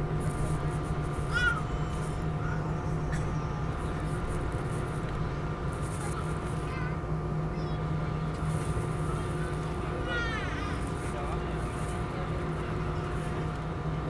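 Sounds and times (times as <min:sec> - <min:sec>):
jet engines idling in cabin: 0:00.0 - 0:14.0.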